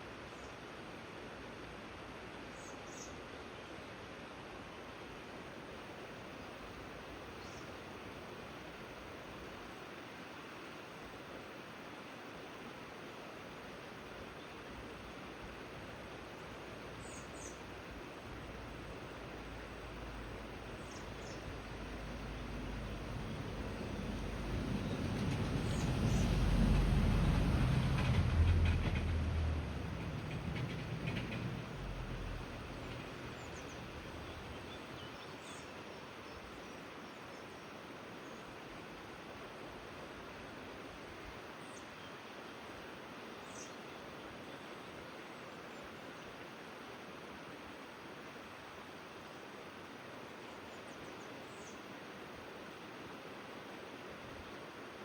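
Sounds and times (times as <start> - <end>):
flowing river water: 0.0 - 55.0.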